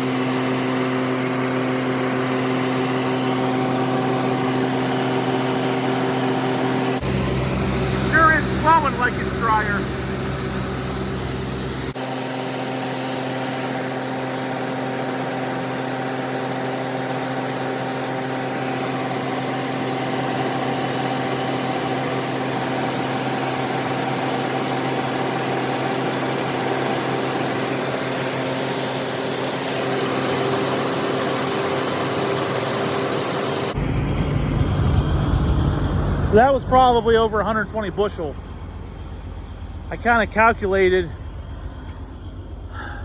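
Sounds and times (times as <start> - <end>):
combine engine and auger hum: 0.0 - 43.0.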